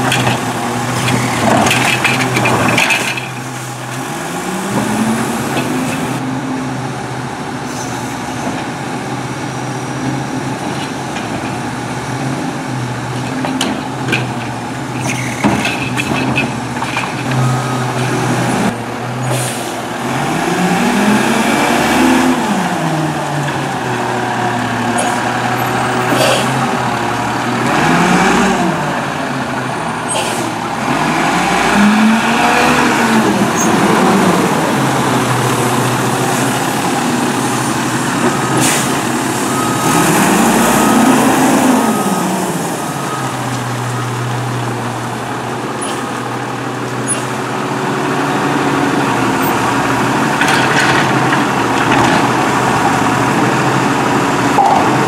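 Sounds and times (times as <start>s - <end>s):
garbage truck engine revving: 0.0s - 55.0s.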